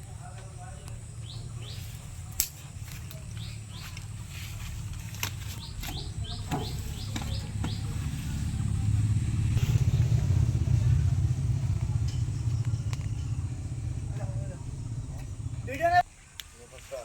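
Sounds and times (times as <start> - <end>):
farm vehicle engine rumbling: 0.0 - 16.0.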